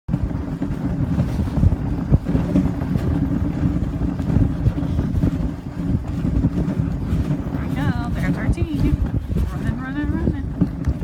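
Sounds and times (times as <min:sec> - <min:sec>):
steady low rumble: 0:00.1 - 0:11.0
wind buffeting microphone: 0:00.1 - 0:11.0.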